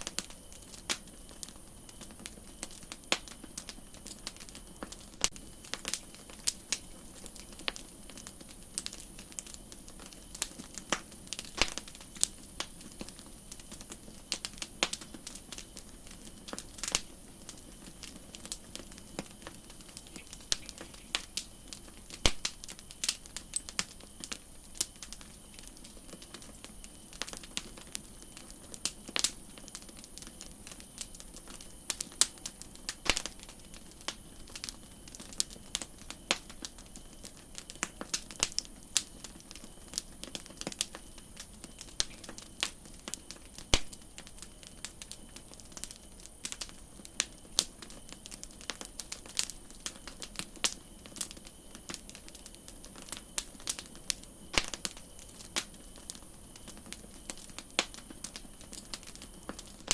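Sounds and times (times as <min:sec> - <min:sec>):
campfire crackling and popping: 0:00.0 - 0:59.9
steady high hiss: 0:00.0 - 0:59.9.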